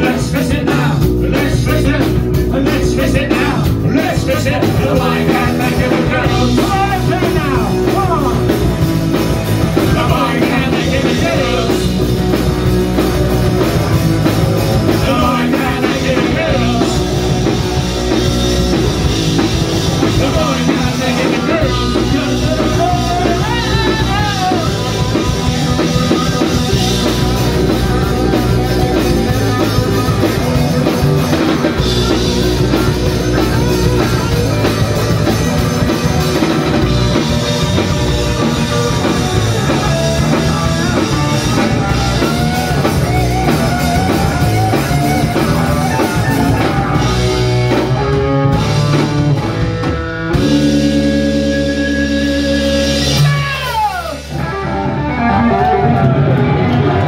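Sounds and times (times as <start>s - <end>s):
punk rock band playing live: 0.0s - 57.0s.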